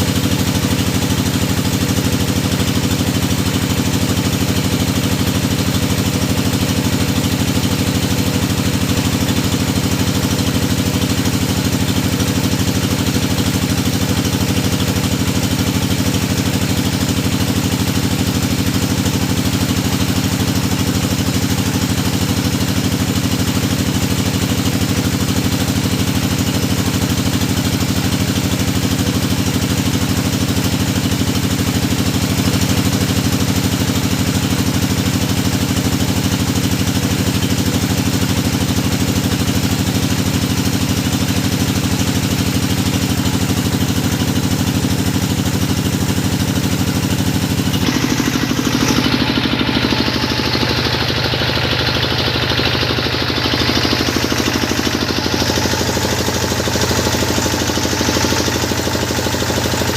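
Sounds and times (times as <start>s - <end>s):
drilling machine engine droning: 0.0s - 37.2s, 38.0s - 59.9s.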